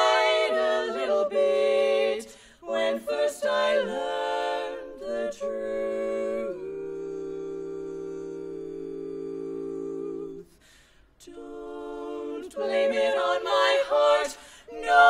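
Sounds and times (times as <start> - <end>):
women singing a cappella harmony: 0.0 - 15.0.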